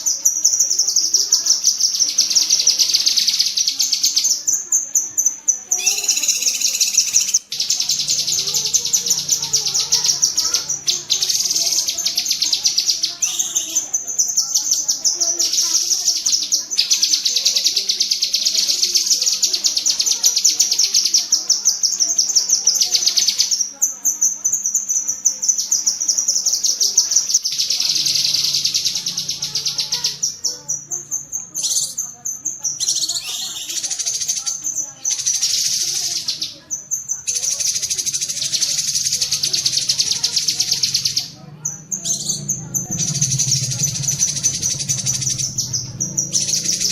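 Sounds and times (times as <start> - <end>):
bird chattering trills: 0.0 - 46.9.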